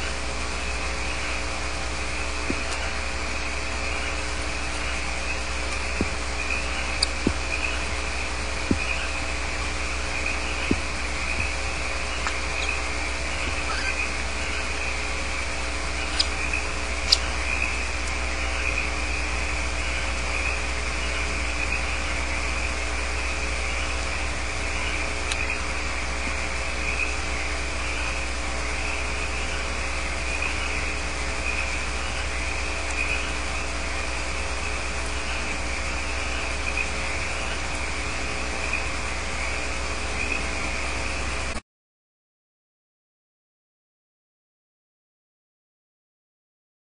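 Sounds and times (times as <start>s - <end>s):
crickets trilling: 0.0s - 41.6s
low hum: 0.0s - 41.6s.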